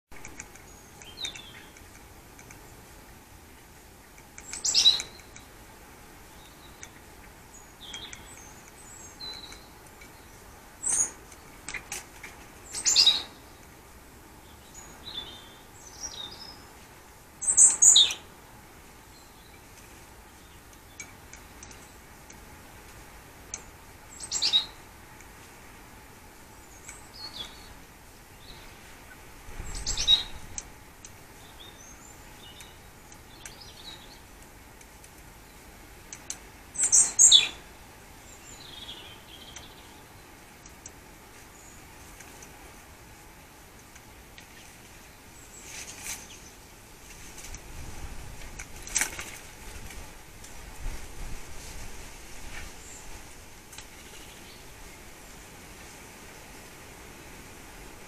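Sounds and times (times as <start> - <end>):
birds chirping: 0.1 - 50.9, 52.4 - 55.6.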